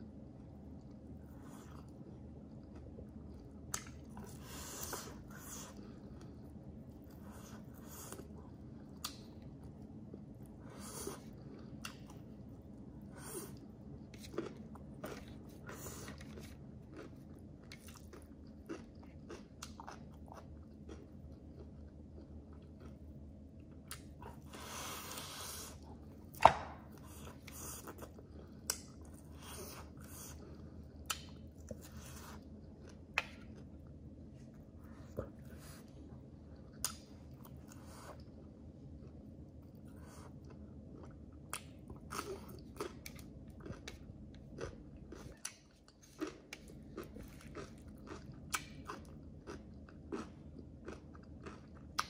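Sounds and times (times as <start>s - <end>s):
person chewing food: 0.6s - 52.0s.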